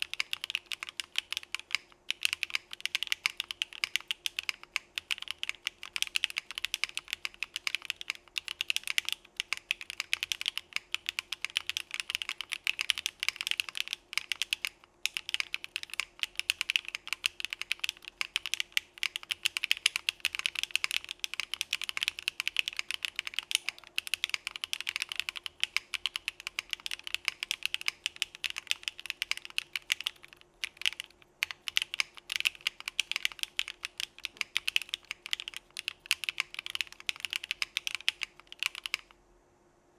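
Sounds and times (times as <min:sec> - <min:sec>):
fast typing on mechanical keyboard: 0:00.0 - 0:39.1.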